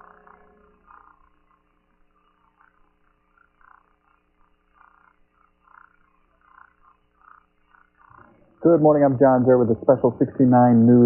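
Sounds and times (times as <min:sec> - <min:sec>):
faint blips: 0:00.0 - 0:11.0
faint steady hum: 0:00.0 - 0:11.0.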